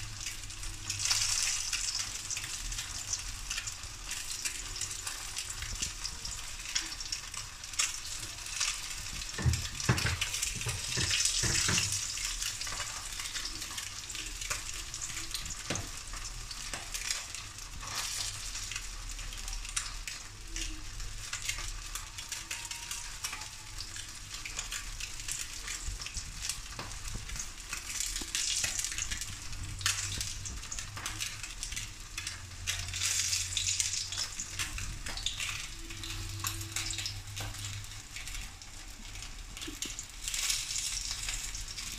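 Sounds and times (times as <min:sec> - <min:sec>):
fish frying in oil: 0:00.0 - 0:41.9.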